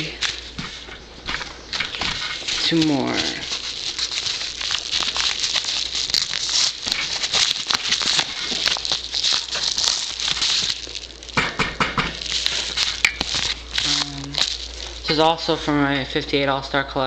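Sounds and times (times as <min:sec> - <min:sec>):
paper envelope rustling and crinkling: 0:00.0 - 0:11.4, 0:12.1 - 0:16.1.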